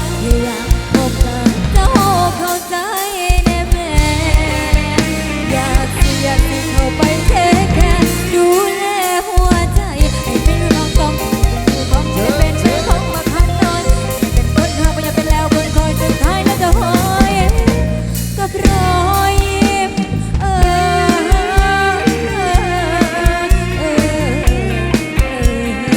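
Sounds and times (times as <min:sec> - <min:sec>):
bass line: 0:00.0 - 0:02.6, 0:03.3 - 0:08.6, 0:09.4 - 0:25.9
bending lead melody: 0:00.0 - 0:25.9
drum kit beat: 0:00.0 - 0:25.9
live band playing: 0:00.0 - 0:25.9.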